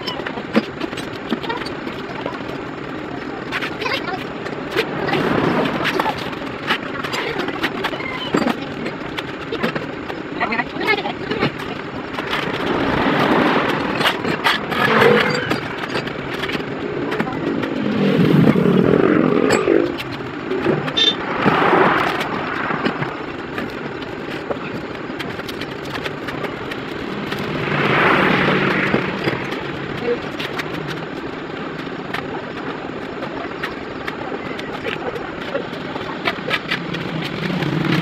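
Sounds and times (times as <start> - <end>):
motor vehicles passing: 0.0 - 38.0.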